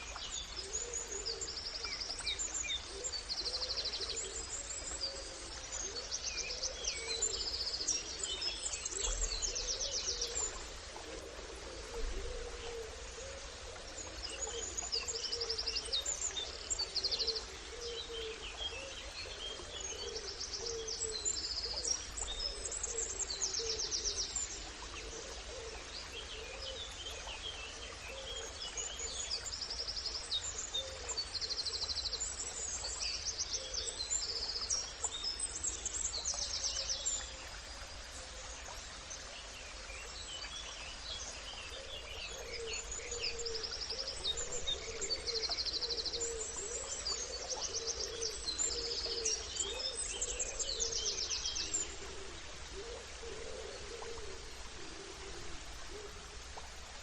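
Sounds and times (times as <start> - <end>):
background hiss: 0.0 - 57.0.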